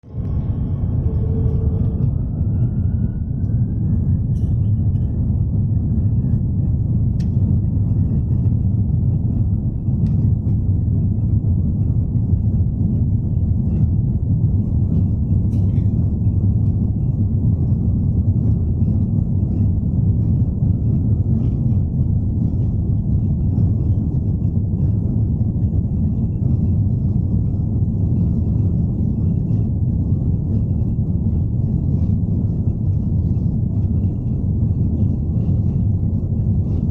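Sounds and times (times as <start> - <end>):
faint engine whine: 0.0 - 36.9
jet engines rumbling: 0.0 - 36.9.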